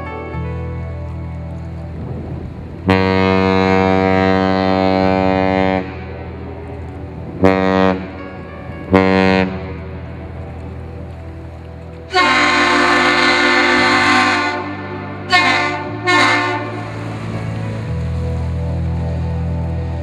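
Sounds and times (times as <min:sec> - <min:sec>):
ship's horn blasts: 0:02.1 - 0:20.0.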